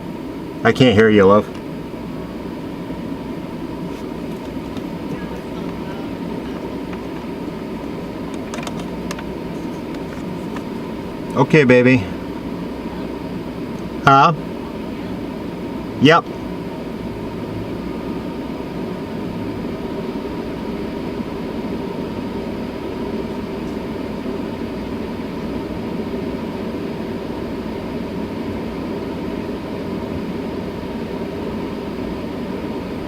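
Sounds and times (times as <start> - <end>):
exhaust fan rushing air: 0.0 - 33.0
faint hum: 0.0 - 33.0.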